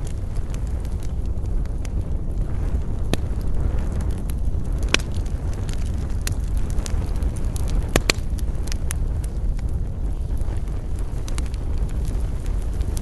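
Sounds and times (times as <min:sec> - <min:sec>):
fire crackles and pops: 0:00.0 - 0:13.0
wood fire rumbling: 0:00.0 - 0:13.0.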